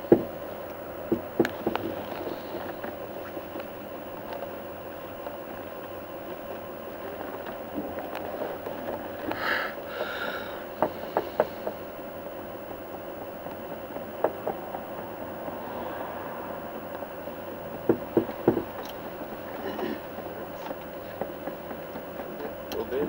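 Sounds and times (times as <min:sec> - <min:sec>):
vehicle interior drone: 0:00.0 - 0:23.0.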